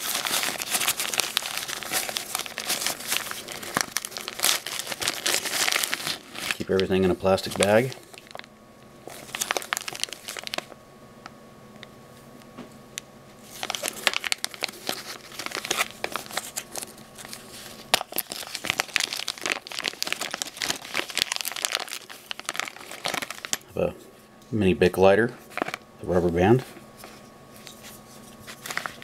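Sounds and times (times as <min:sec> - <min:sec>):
plastic bag crinkling: 0:00.0 - 0:10.8, 0:13.4 - 0:23.7, 0:25.4 - 0:25.8, 0:26.6 - 0:29.0.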